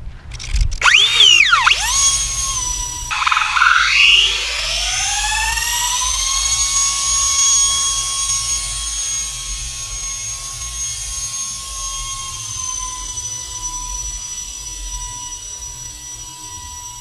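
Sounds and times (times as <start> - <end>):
electric ducted fans whining: 0.8 - 17.0.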